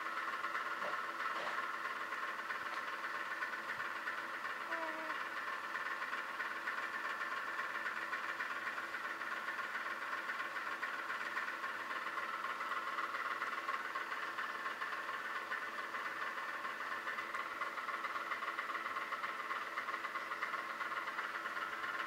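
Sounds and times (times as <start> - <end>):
mechanical hum with whir: 0.0 - 22.0.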